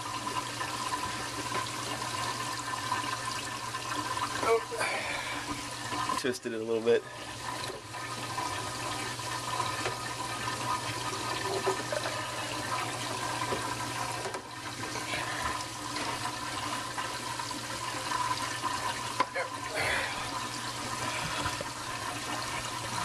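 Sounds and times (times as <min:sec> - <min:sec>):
water flowing through plumbing: 0:00.0 - 0:23.0.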